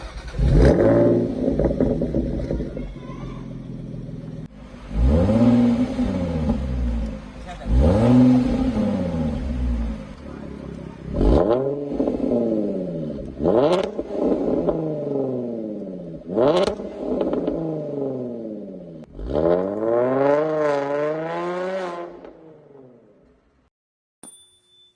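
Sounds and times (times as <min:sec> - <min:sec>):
car engine revving: 0:00.0 - 0:23.1.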